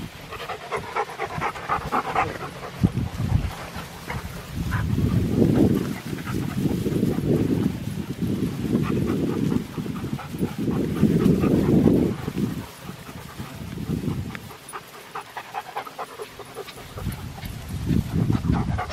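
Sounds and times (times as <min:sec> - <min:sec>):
dogs panting: 0:00.0 - 0:18.9.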